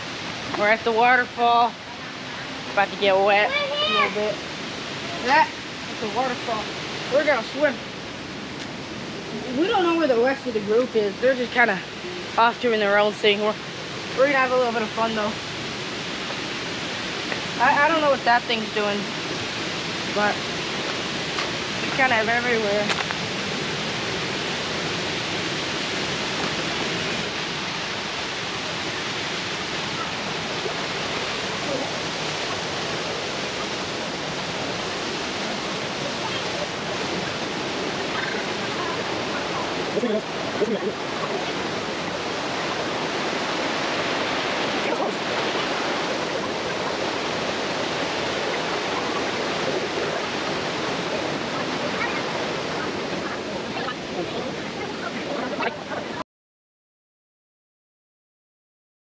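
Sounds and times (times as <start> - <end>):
waterfall rushing: 0.0 - 56.2.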